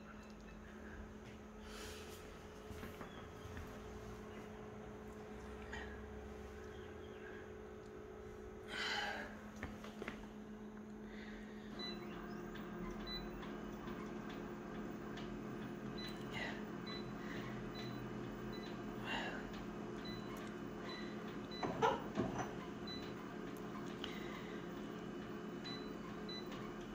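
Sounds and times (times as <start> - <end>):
copier humming: 0.0 - 26.9.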